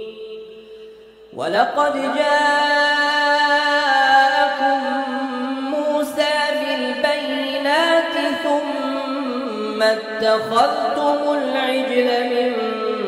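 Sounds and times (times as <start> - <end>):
person chanting recitation: 0.0 - 13.0.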